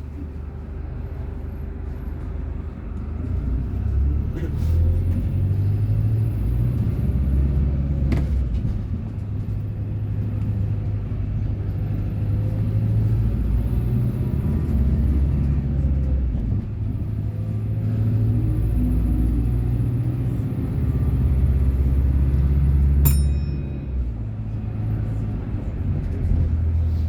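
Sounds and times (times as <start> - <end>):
vehicle rumbling on road: 0.0 - 27.0.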